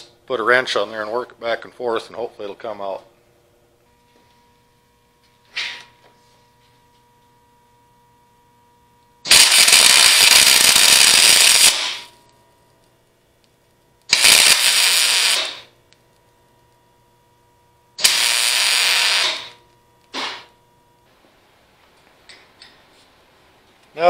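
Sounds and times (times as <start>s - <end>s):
welder arc crackling and hissing: 0.0s - 22.3s.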